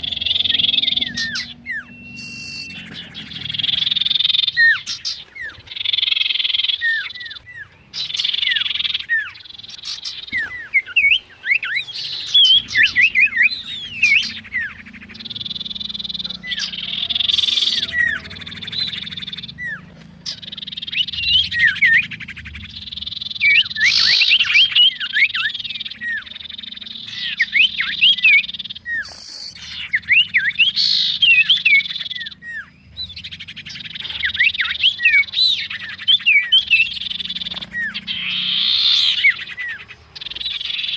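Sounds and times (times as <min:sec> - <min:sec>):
bird whistled calls and buzz: 0:00.0 - 0:40.9.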